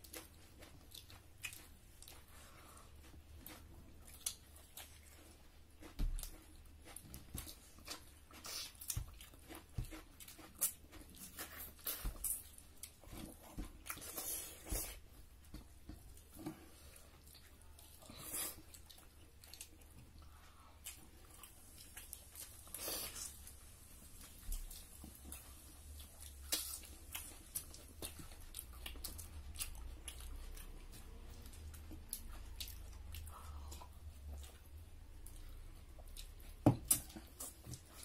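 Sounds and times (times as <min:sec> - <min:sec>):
chewing and mouth sounds: 0:00.0 - 0:38.0.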